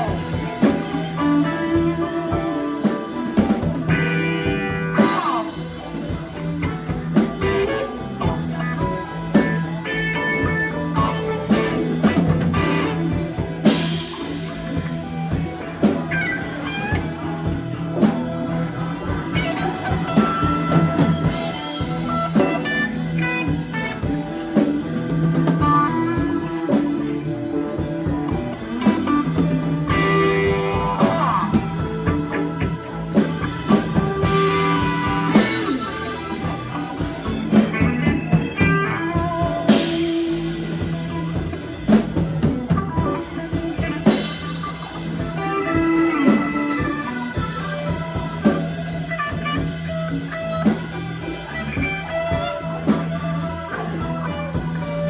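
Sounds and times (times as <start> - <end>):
bass guitar: 0.0 - 55.0
drum kit: 0.0 - 55.0
electric guitar with bent notes: 0.0 - 55.0.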